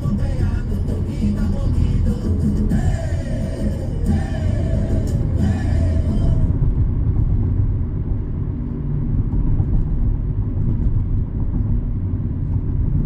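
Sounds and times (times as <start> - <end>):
airliner low rumble: 0.0 - 13.0.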